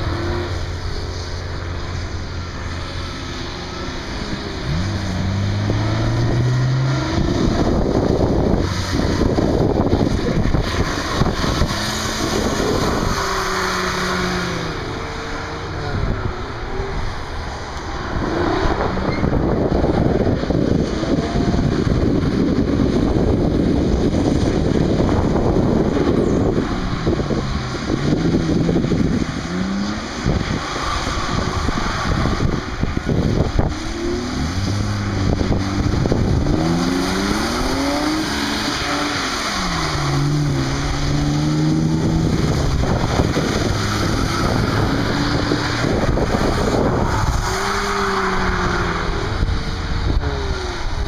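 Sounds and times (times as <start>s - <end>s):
car engines revving hard: 0.0s - 51.0s
wind buffeting microphone: 1.5s - 51.0s.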